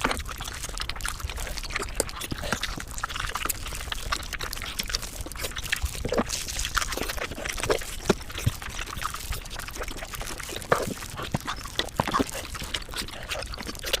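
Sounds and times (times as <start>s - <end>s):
wet chewing and mouth smacks: 0.0s - 14.0s.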